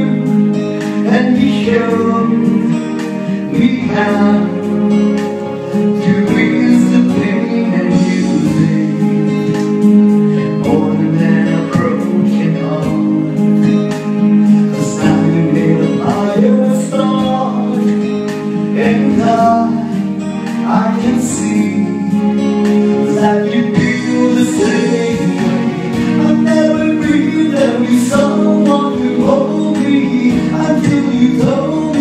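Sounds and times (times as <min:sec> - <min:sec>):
man singing into microphone: 0:00.0 - 0:32.0
recorded musical accompaniment: 0:00.0 - 0:32.0.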